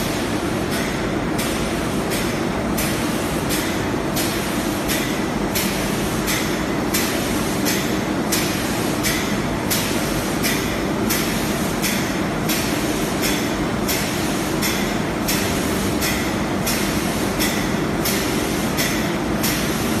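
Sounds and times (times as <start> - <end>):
winding machine mechanical hum: 0.0 - 20.0.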